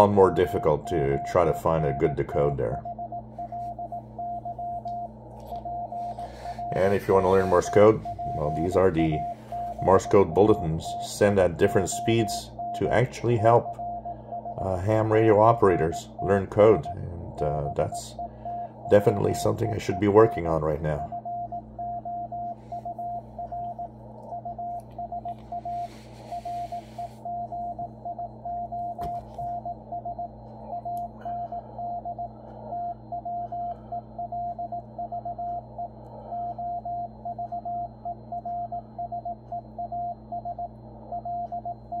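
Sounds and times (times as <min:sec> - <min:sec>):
low hum: 0:00.0 - 0:42.0
morse code beeps: 0:00.0 - 0:42.0.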